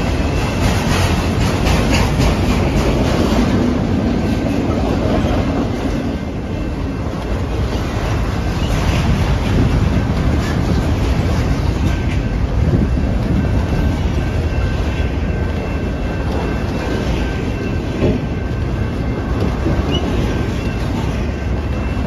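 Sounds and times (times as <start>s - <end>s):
steel wheels rumbling on rails: 0.0s - 22.0s
wheels clacking over rail joints: 0.0s - 22.0s.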